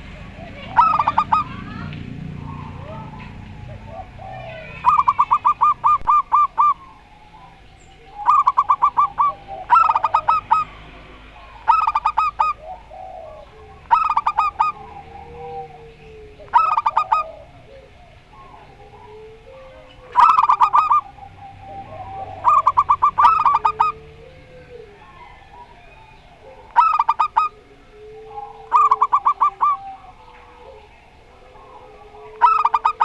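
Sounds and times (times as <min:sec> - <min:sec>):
doves rapid staccato cooing: 0:00.0 - 0:33.0.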